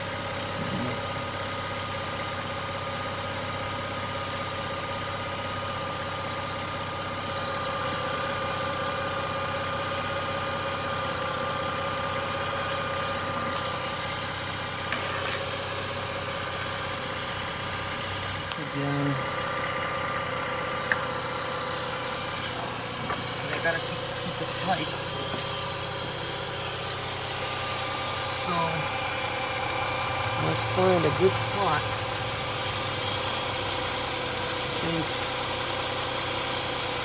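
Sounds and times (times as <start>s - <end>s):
engine whine: 0.0s - 2.0s, 7.3s - 37.0s
rotary engine idling: 0.0s - 37.0s.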